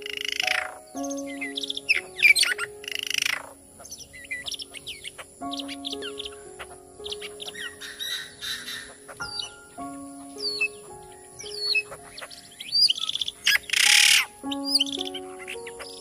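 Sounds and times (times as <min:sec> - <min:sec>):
background music of low notes: 0:00.0 - 0:16.0
loud raspy bird call: 0:00.0 - 0:16.0.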